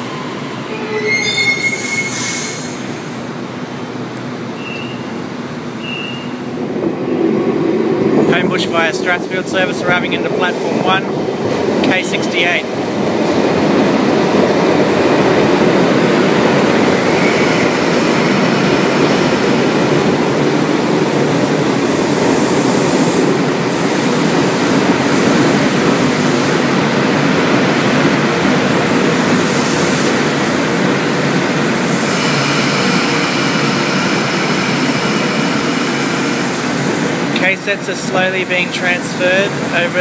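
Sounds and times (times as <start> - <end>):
train rumbling into station: 0.0 - 40.0.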